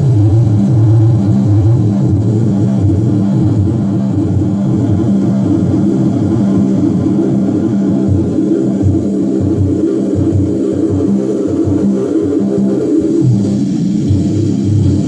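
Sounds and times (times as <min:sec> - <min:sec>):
distorted droning low notes with echoes: 0:00.0 - 0:15.0.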